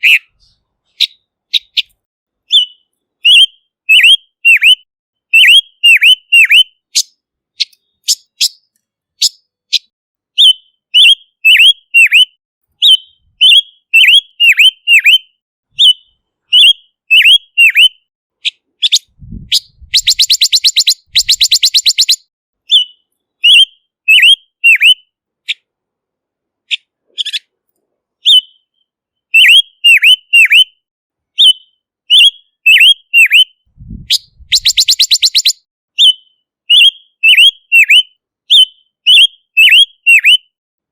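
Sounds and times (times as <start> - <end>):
bird whistled calls: 0.0 - 25.6, 28.2 - 30.8, 31.4 - 40.5.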